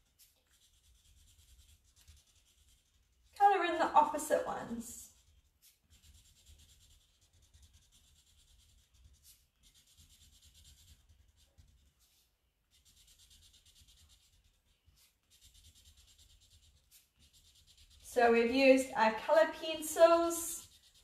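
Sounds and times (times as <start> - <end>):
marker scratching on paper: 0.0 - 21.0.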